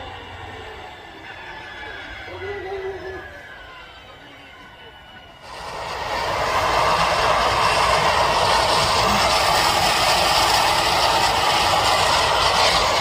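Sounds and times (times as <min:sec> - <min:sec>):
helicopter rotor and engine noise: 0:00.0 - 0:13.0.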